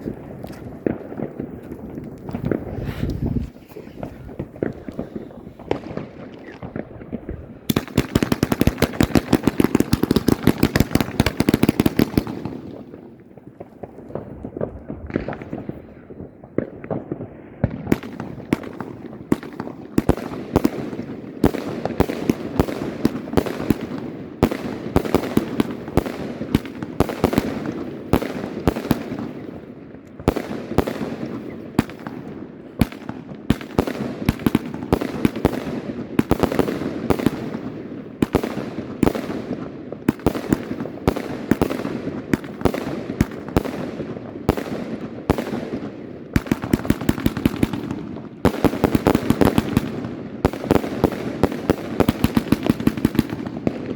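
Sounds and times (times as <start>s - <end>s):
firework crackles: 0.0s - 53.9s.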